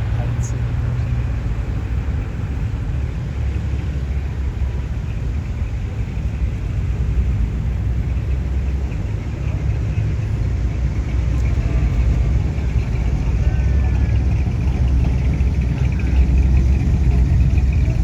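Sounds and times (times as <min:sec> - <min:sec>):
cars cruising past: 0:00.0 - 0:18.0.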